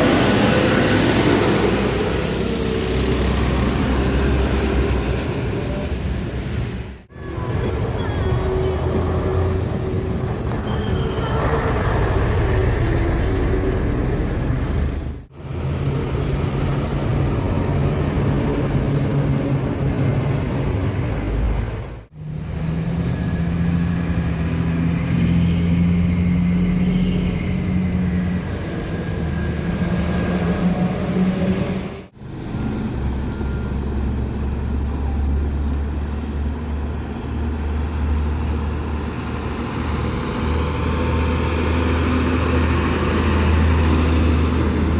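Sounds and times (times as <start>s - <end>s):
heavy trucks driving past: 0.0s - 44.9s
traffic noise: 0.0s - 44.9s.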